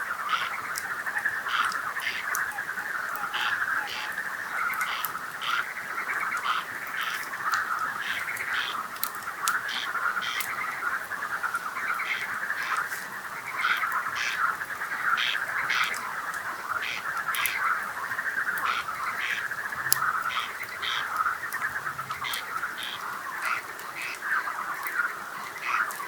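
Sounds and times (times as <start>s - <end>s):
campfire crackling and popping: 0.0s - 26.0s
frogs trilling and croaking: 0.0s - 26.0s.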